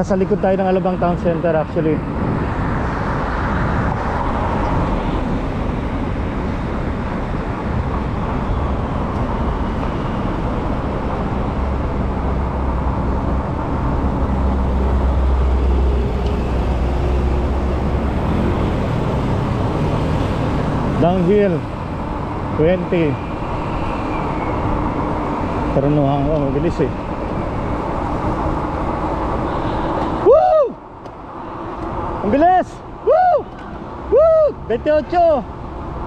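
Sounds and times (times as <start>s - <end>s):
cars passing: 0.0s - 36.0s
road and traffic noise: 0.0s - 36.0s.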